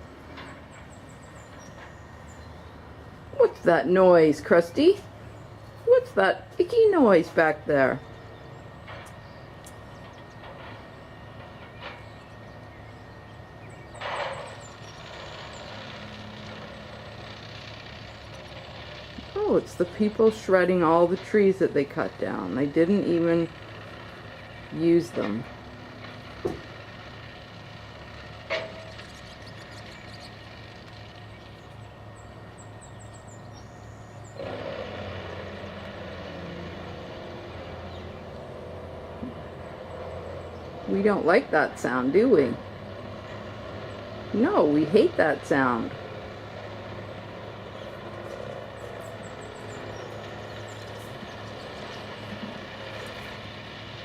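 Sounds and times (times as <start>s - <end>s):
distant wood chipper droning: 0.0s - 54.0s.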